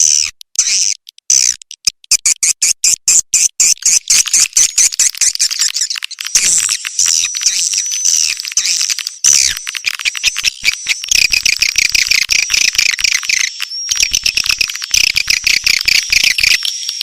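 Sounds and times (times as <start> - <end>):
high-pitched bird twittering: 0.0 - 17.0.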